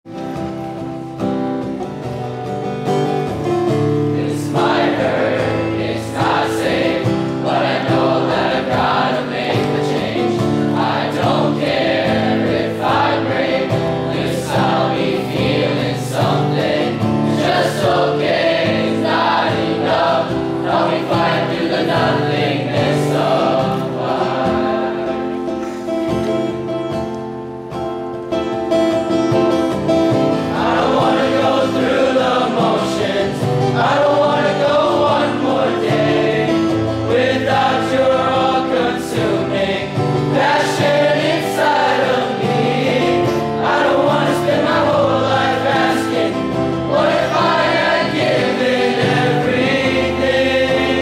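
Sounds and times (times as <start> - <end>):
instrumental accompaniment: 0.1 - 51.0
boys singing in unison: 4.2 - 25.3, 30.5 - 51.0.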